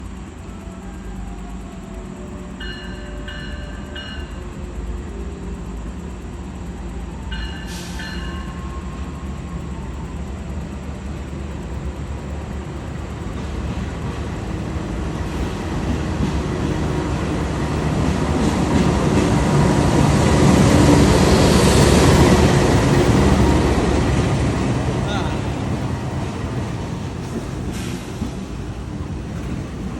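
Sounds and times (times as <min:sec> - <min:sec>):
train approaching on rails: 0:00.0 - 0:29.9.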